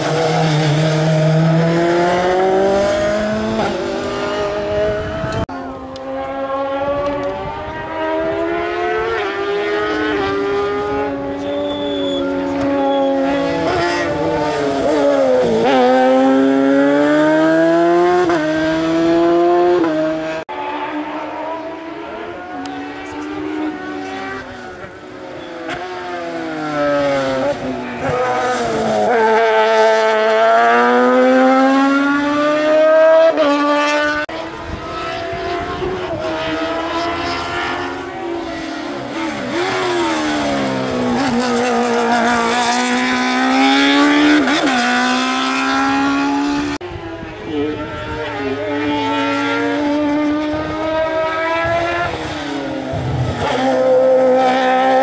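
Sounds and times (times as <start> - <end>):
racing car engines revving: 0.0 - 55.0.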